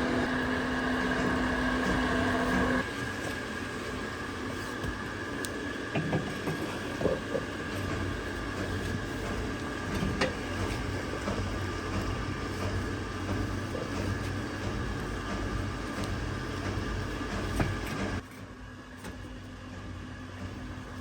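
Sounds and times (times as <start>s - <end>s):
mechanical drone with hum: 0.0s - 21.0s.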